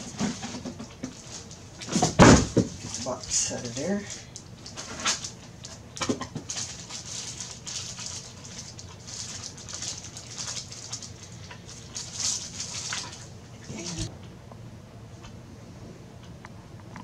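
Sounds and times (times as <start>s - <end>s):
plastic wrapping crinkling: 0.0s - 14.1s.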